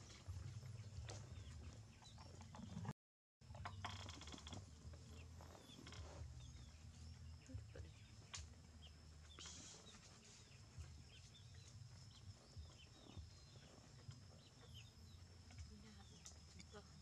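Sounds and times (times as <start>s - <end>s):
small birds twittering: 0.0s - 2.9s, 3.5s - 17.0s.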